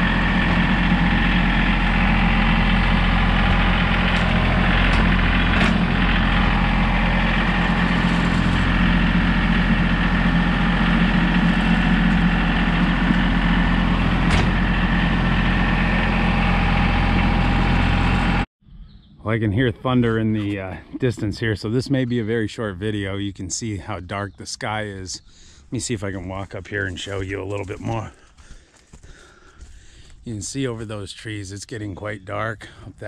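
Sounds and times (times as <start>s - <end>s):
tractor diesel engine running: 0.0s - 18.5s, 19.6s - 31.1s.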